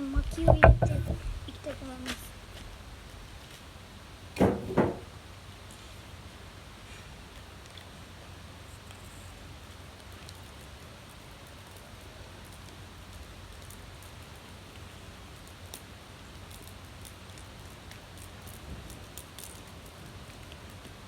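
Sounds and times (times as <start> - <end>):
wood fire crackling: 0.0 - 8.2, 9.3 - 21.0.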